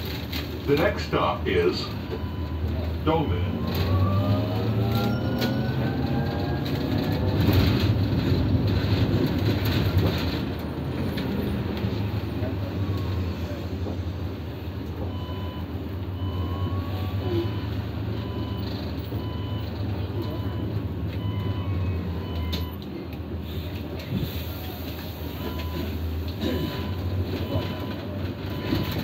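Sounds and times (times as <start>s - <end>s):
bus drive hum: 0.0s - 29.0s
road noise: 0.0s - 29.0s.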